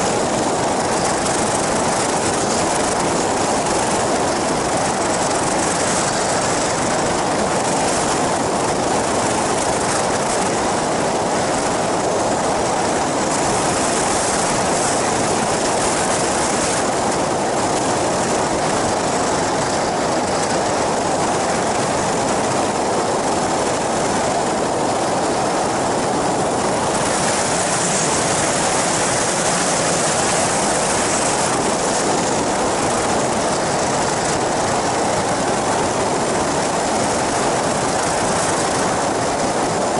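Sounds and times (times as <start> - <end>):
aircraft engine and propeller drone: 0.0 - 39.9
wind rush over microphone: 0.0 - 39.9.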